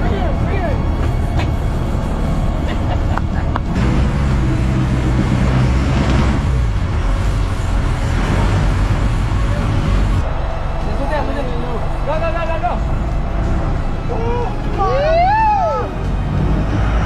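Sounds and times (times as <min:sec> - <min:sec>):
boat engine running: 0:00.0 - 0:17.0
low hum: 0:00.0 - 0:17.0.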